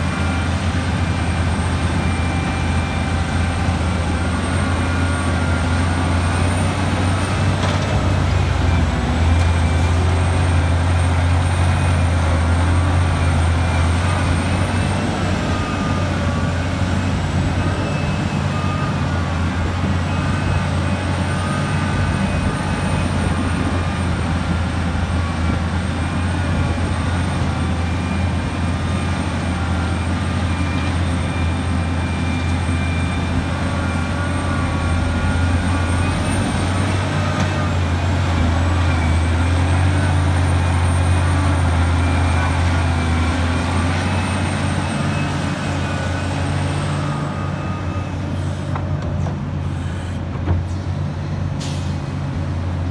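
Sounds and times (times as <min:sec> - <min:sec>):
excavator engine droning: 0:00.0 - 0:52.9.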